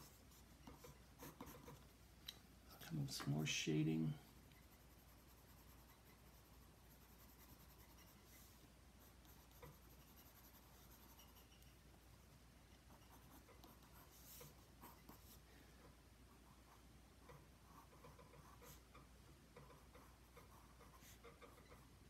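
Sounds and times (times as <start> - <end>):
pencil scratching on paper: 0.0 - 1.9, 4.4 - 11.8, 12.8 - 15.4, 16.3 - 22.0.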